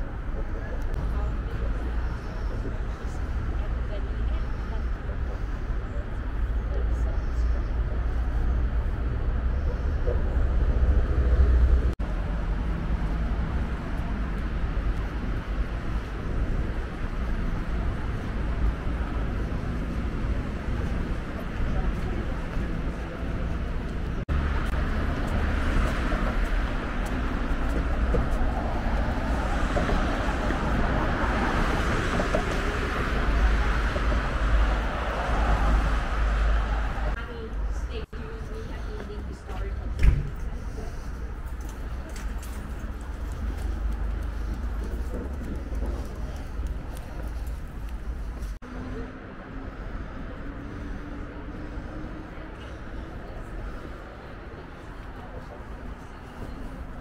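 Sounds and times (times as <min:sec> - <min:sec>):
cars and buses passing: 0:00.0 - 0:57.0
low rumble of city traffic: 0:00.0 - 0:57.0.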